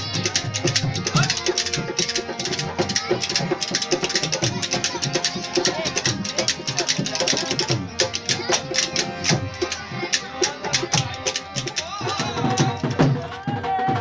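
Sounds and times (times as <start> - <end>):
harmonium held notes: 0.0 - 12.8
fast hand-drum beats: 0.0 - 14.0.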